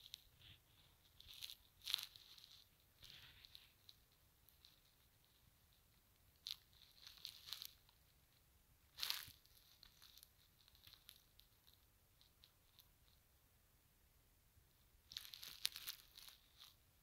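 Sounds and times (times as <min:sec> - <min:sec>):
faint crackles and clicks: 0:00.0 - 0:13.4, 0:14.6 - 0:17.0.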